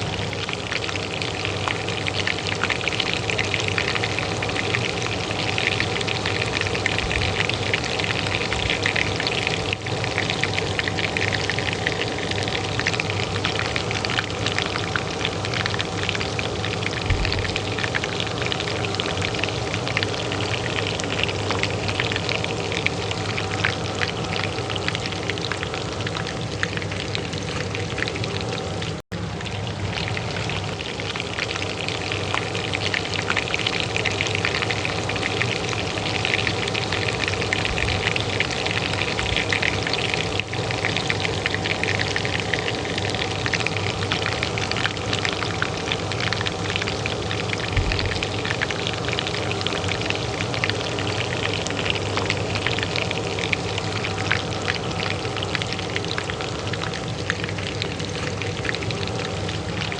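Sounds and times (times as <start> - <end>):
oil frying in a pan: 0.0 - 59.9
range hood fan hum: 0.0 - 59.9.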